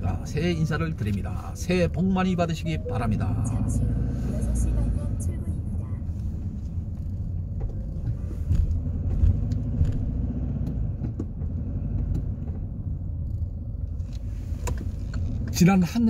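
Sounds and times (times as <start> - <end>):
car rumble inside cabin: 0.0 - 16.0.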